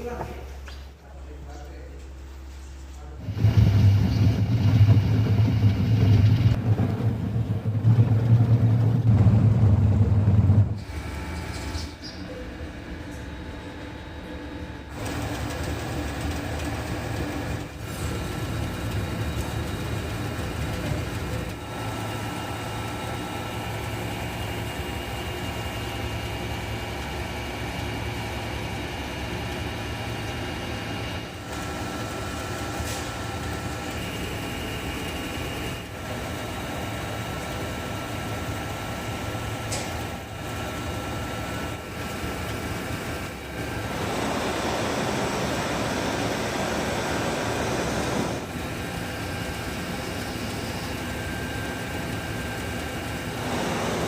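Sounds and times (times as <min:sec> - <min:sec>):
factory machinery low hum: 0:00.0 - 0:54.0.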